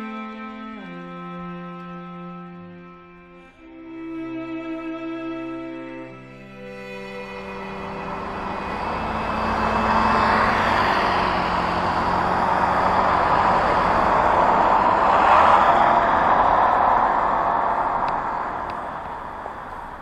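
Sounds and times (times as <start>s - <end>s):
cars passing close by: 0.0s - 20.0s.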